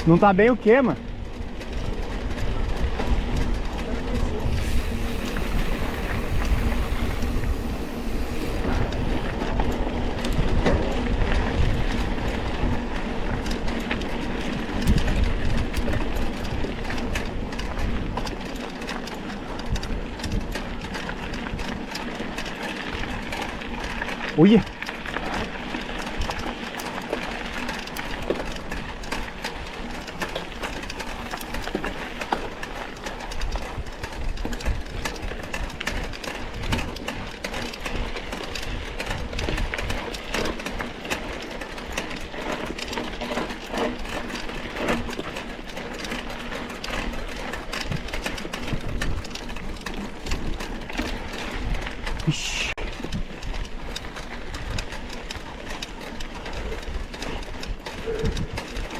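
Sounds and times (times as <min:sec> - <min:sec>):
bike rattling over rough trail: 0:00.0 - 0:58.9.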